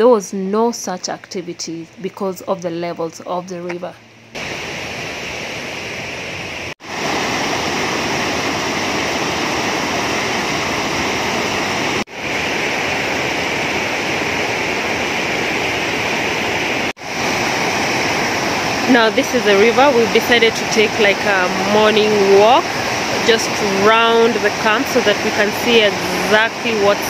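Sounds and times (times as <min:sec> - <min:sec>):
river water flowing over rocks: 0:04.4 - 0:27.0.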